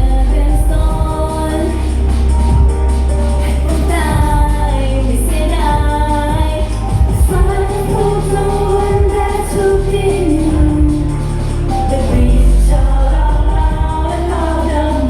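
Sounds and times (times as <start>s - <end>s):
heavy bass beat: 0.0s - 15.0s
woman singing pop song: 0.0s - 15.0s.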